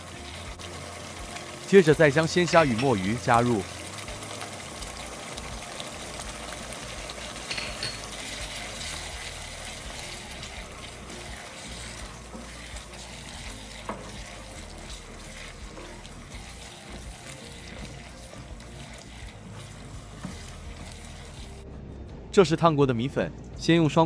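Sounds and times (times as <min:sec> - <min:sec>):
wet frying hiss: 0:00.0 - 0:21.6.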